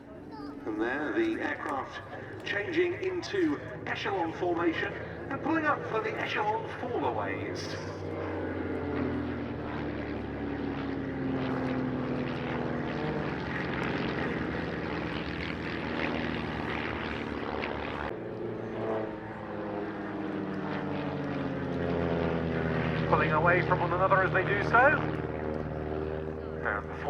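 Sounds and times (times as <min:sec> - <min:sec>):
propeller aircraft droning: 0:00.0 - 0:27.0.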